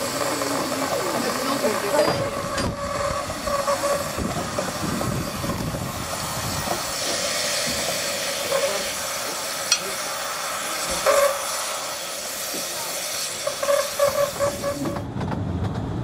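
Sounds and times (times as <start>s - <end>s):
steam hissing: 0.0s - 15.1s.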